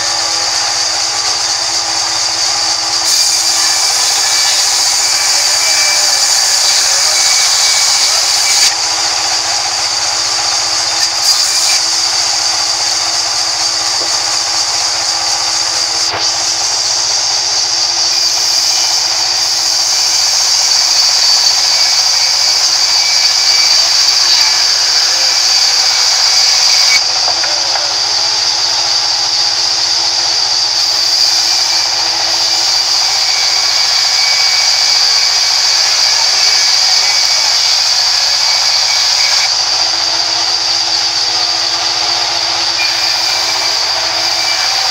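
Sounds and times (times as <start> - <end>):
band saw whining through wood: 0.0 - 44.9
motor hum: 0.0 - 44.9.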